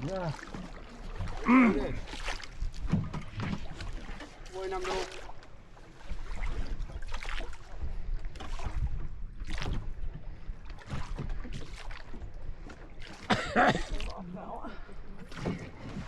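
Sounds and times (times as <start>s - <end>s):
oar strokes splashing: 0.0s - 16.0s.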